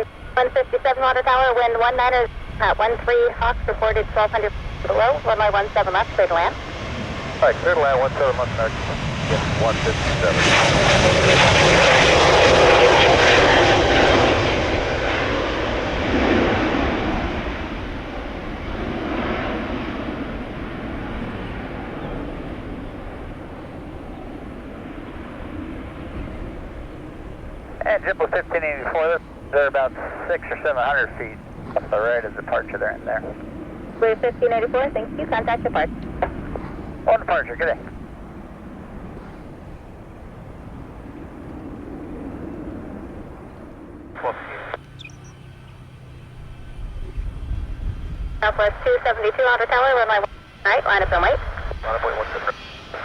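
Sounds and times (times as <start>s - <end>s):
jet engine roar: 0.0s - 53.0s
wind rumble on microphone: 0.0s - 53.0s.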